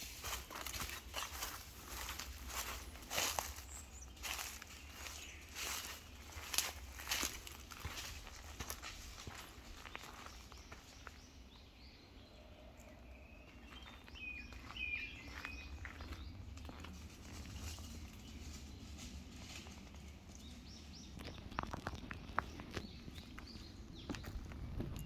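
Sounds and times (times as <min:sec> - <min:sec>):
footsteps crunching on forest path: 0:00.0 - 0:25.0
distant bird chirping: 0:00.2 - 0:19.3, 0:19.9 - 0:25.0
faint low outdoor rumble: 0:00.2 - 0:25.0.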